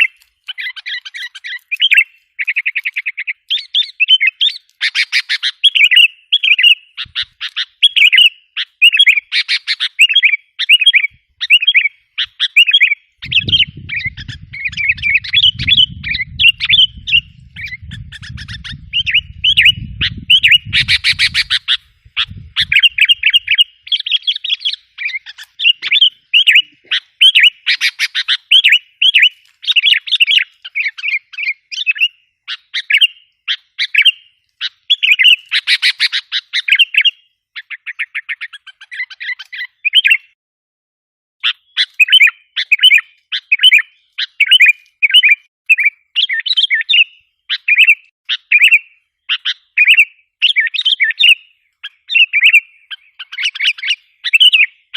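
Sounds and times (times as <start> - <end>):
bulbuls chirping: 0.0 - 40.3, 41.4 - 54.9.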